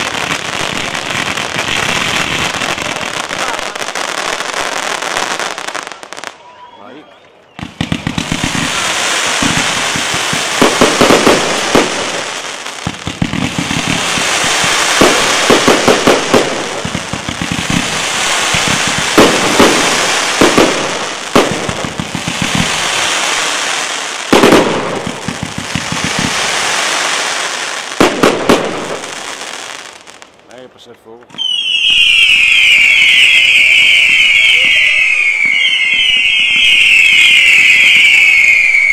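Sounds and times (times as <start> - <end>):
fireworks crackling hiss: 0.0 - 6.4, 7.6 - 30.6, 31.3 - 38.9
fireworks bangs: 0.0 - 38.9.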